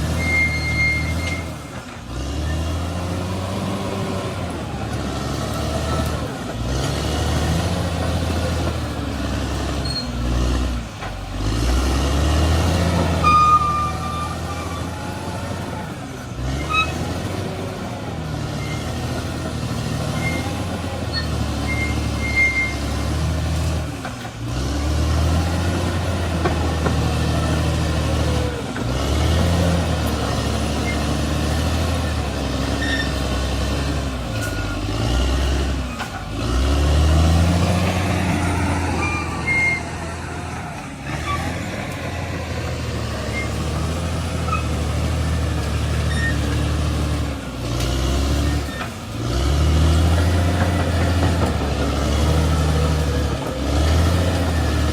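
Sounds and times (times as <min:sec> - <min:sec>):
bulldozer engine rumble: 0:00.0 - 0:54.9.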